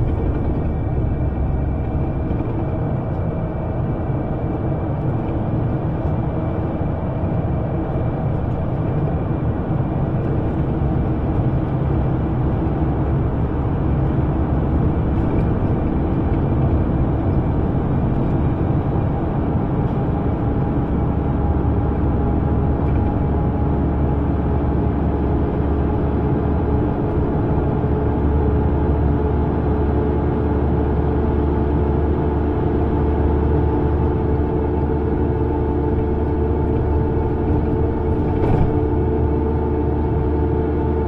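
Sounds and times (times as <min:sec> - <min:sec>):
underground train rumble: 0:00.0 - 0:41.0.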